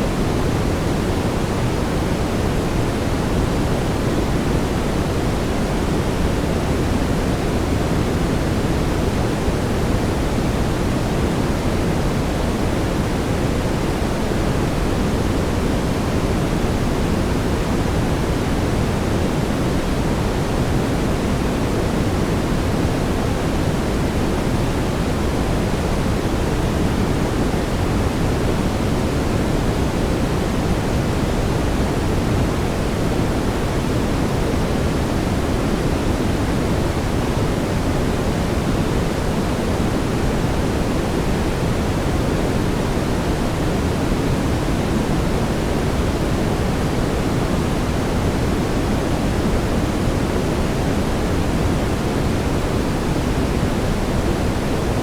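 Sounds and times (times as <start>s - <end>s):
brown noise hiss: 0.0s - 55.0s.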